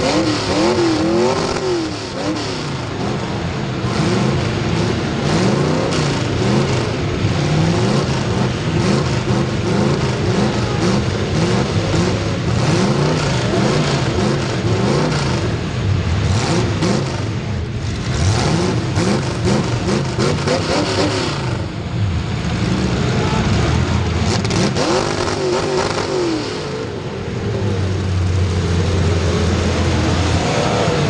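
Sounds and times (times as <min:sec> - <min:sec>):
race car engines: 0:00.0 - 0:31.0.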